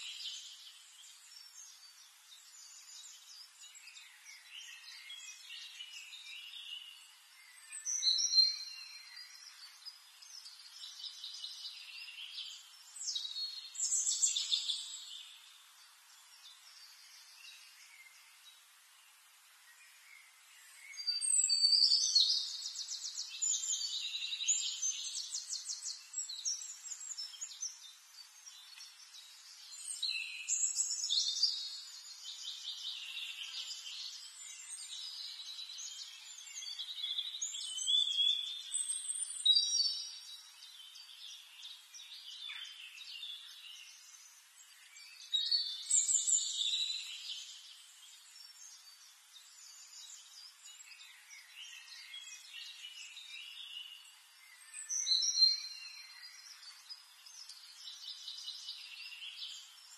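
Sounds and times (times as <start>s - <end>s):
songbird trills and whistles: 0.0s - 15.4s, 19.8s - 59.9s
soft bird chirps: 0.0s - 59.9s.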